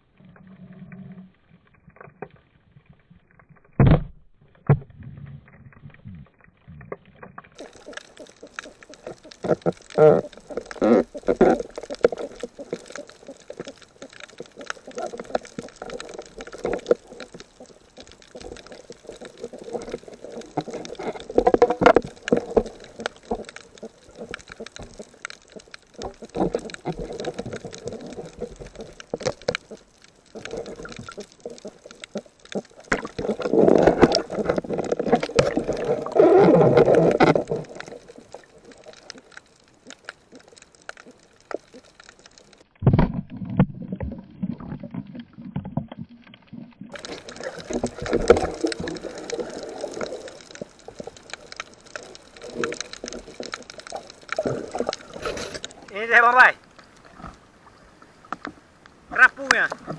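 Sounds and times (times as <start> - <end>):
small clicks and splashes: 0.0 - 59.9
water sloshing and gurgling: 0.0 - 59.9.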